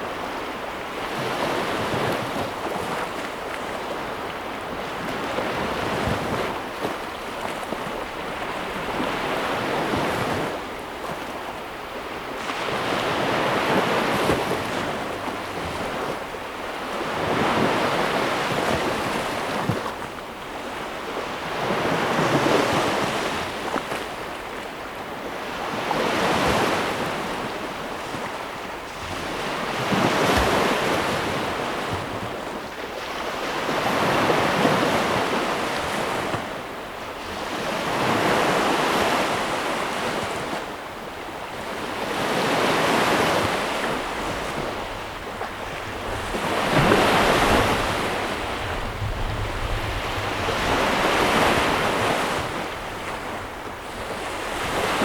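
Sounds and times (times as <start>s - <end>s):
ocean waves breaking on shore: 0.0s - 55.0s.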